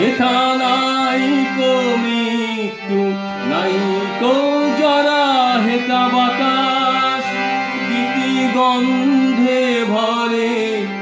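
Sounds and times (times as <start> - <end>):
harmonium chords: 0.0 - 11.0
man singing: 0.0 - 11.0.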